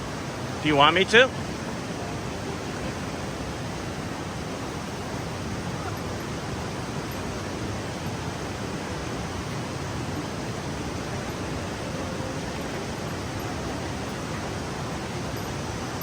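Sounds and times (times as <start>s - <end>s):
river and waterfall rushing: 0.0s - 16.0s.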